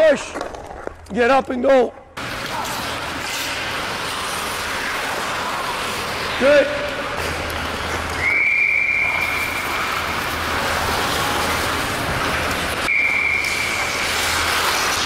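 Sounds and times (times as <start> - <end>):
high squeal of skate edges: 2.2 - 15.0
skate blades scraping ice: 2.2 - 15.0.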